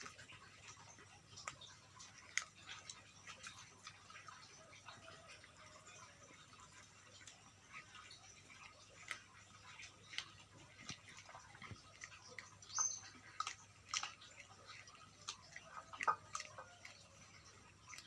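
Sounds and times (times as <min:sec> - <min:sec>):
dogs chewing: 0:00.0 - 0:18.0.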